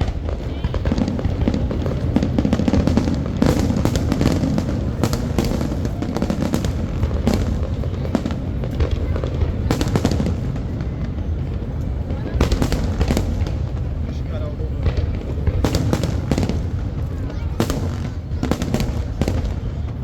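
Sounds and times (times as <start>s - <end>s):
firework bursts and crackles: 0.0s - 20.0s.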